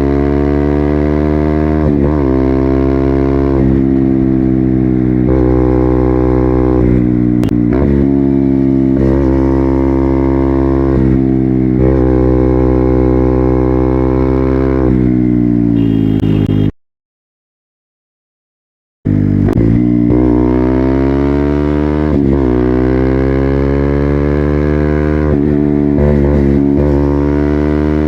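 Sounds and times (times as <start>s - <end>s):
motorcycle engine accelerating: 0.0s - 16.7s, 19.1s - 28.0s.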